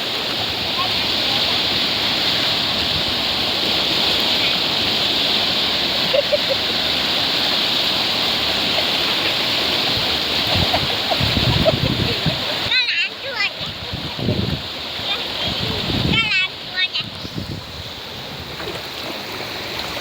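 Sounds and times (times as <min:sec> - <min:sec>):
irregular splashing: 0:00.0 - 0:20.0
sea surf washing ashore: 0:00.0 - 0:20.0.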